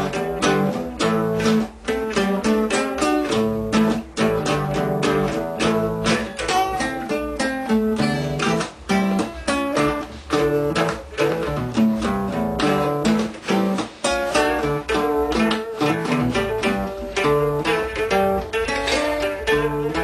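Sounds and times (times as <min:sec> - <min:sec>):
classical guitars playing: 0:00.0 - 0:20.0.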